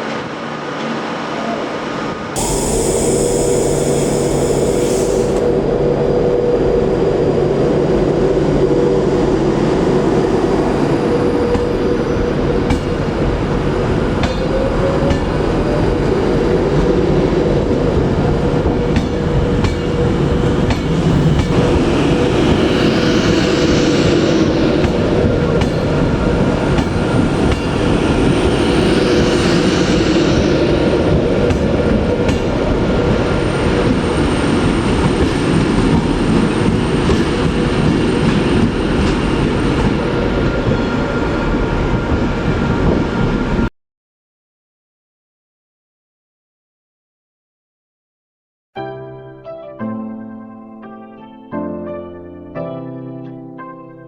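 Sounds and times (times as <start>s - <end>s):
steady train hum: 0.0s - 43.7s
train wheels rumbling on rail: 0.0s - 43.7s.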